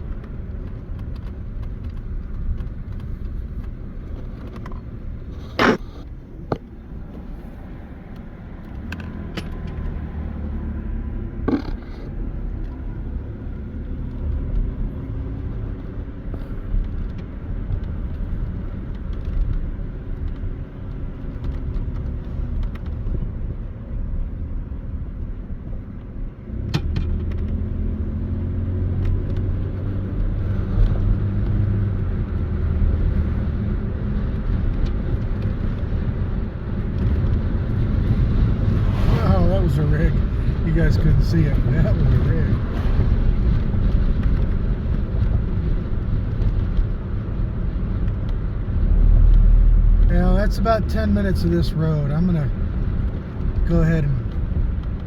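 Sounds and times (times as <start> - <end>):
engine and road rumble: 0.0 - 55.0.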